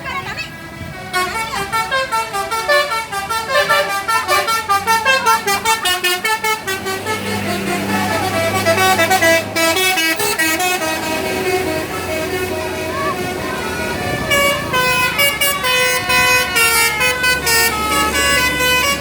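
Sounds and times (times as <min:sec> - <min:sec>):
multi-tone bus air horn melody: 0:00.8 - 0:19.0.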